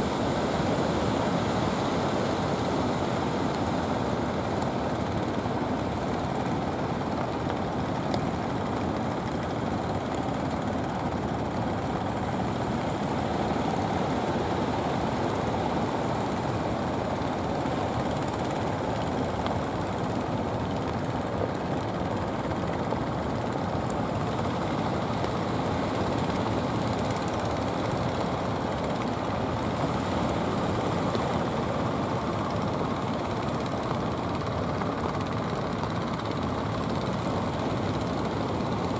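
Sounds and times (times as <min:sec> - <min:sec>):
wind: 0:00.0 - 0:38.9.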